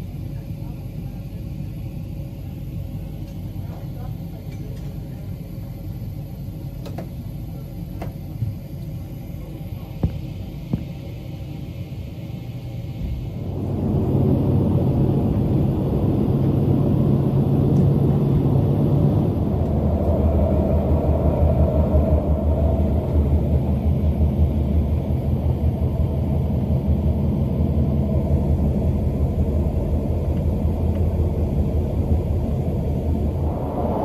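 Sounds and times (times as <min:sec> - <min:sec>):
train rumbling from inside carriage: 0:00.0 - 0:34.0.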